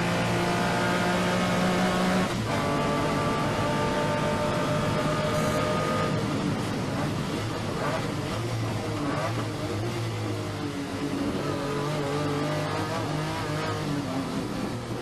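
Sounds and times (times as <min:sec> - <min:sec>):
car engine under throttle: 0:00.0 - 0:15.0.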